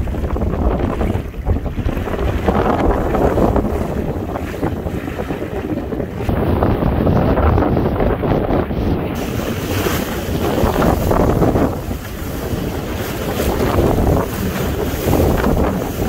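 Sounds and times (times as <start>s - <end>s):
water rushing and splashing: 0.0s - 16.0s
wind buffeting microphone: 0.0s - 16.0s.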